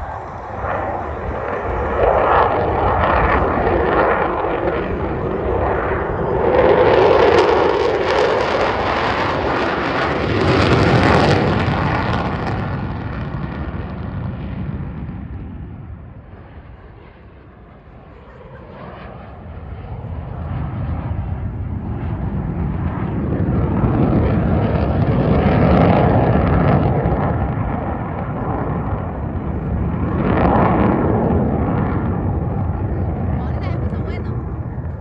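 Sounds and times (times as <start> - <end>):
jet engines passing overhead: 0.0 - 35.0.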